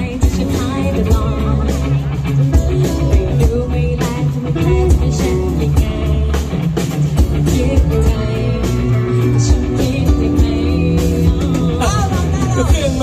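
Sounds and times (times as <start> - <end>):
live pop-rock band: 0.0 - 13.0
person singing through pa: 0.0 - 13.0.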